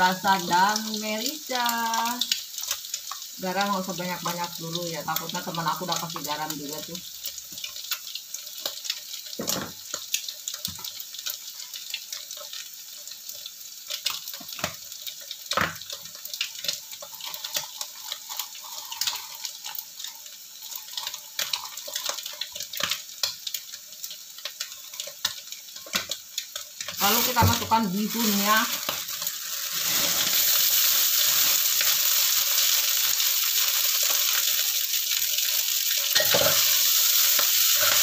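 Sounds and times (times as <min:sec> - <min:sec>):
oil sizzling in a wok: 0:00.0 - 0:38.0.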